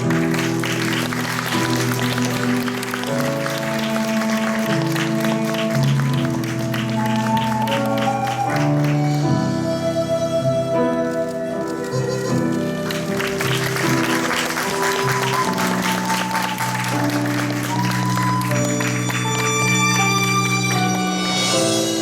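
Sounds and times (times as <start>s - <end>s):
audience applause: 0.0s - 9.3s, 11.6s - 21.5s
slow musical theatre music: 0.0s - 22.0s.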